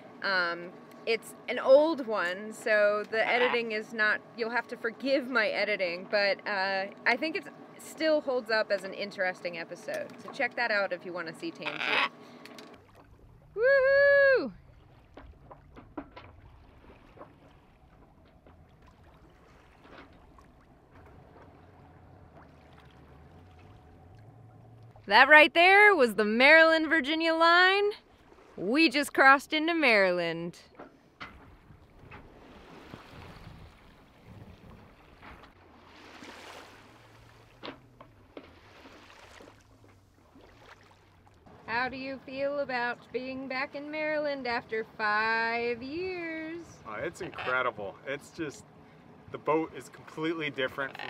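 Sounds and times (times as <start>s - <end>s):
faint wind: 0.0s - 51.0s
water lapping against a hull: 0.0s - 51.0s.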